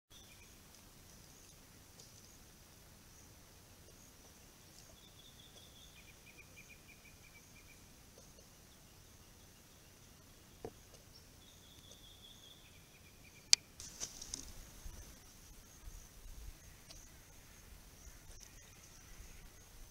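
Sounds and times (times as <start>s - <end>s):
steady high hiss: 0.2s - 19.9s.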